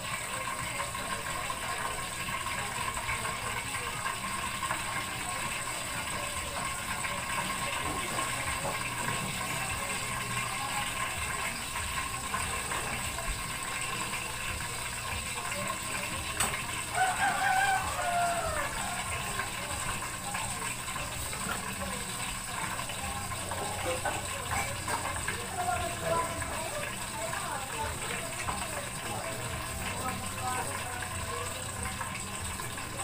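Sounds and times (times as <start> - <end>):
gas stove burner hissing: 0.0 - 33.0.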